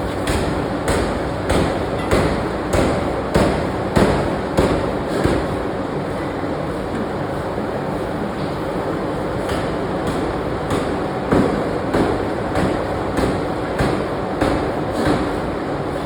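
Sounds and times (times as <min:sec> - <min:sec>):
loud factory din: 0:00.0 - 0:16.0.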